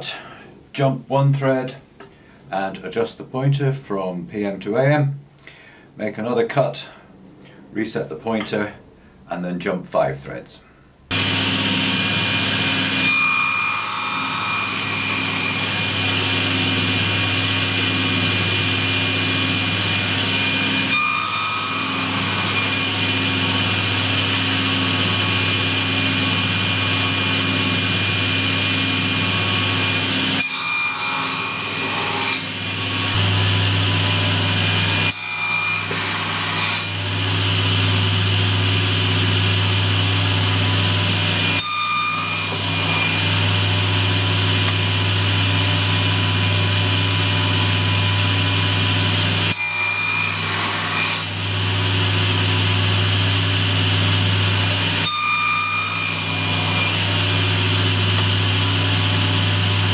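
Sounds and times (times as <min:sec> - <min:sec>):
table saw cutting wood: 0:11.1 - 0:59.9.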